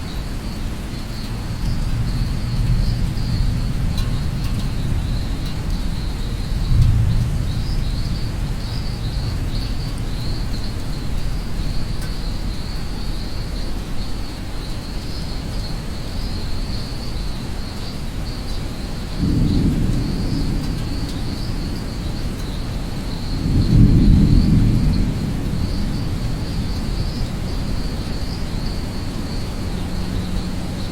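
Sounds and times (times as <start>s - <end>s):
insects chirring: 0.0s - 30.9s
steady rain: 0.0s - 30.9s
thunder rumble: 0.3s - 13.3s, 19.1s - 30.9s.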